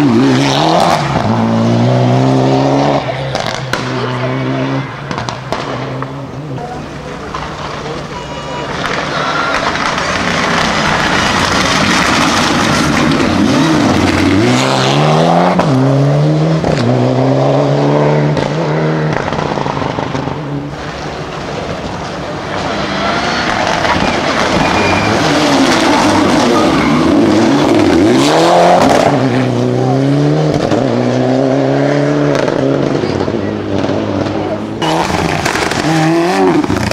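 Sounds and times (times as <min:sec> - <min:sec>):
car engine approaching: 0:00.0 - 0:36.9
rally car engines accelerating: 0:00.0 - 0:36.9.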